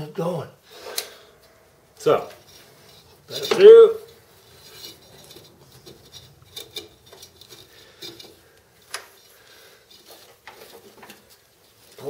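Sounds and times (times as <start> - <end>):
metallic clicks and scrapes: 0.8 - 12.0.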